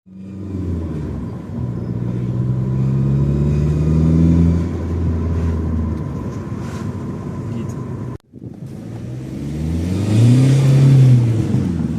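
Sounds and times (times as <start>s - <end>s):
diesel engine revving: 0.1s - 11.9s.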